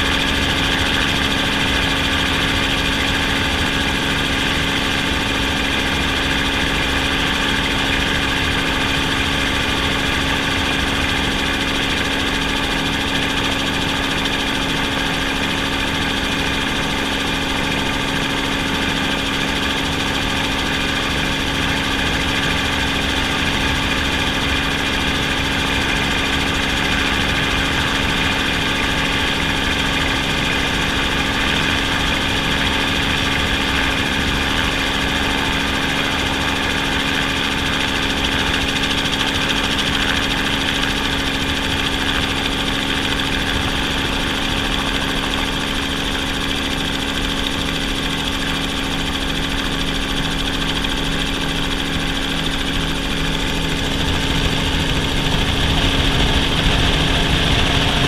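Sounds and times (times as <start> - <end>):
aircraft motor and rotor hum: 0.0 - 58.0.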